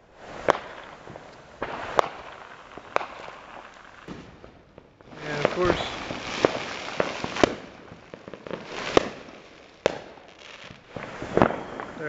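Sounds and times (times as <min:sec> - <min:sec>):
firework bangs: 0:00.0 - 0:12.0
fireworks crackling: 0:00.0 - 0:12.0.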